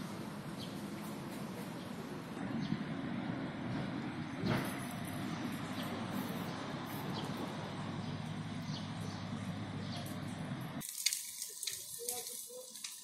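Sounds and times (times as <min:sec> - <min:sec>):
low rumbling outdoor noise: 0:00.0 - 0:13.0.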